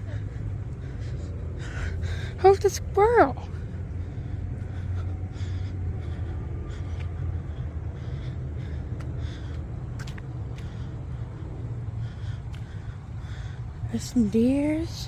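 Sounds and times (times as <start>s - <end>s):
soft breaths: 0.0s - 15.0s
steady low rumble: 0.0s - 15.0s.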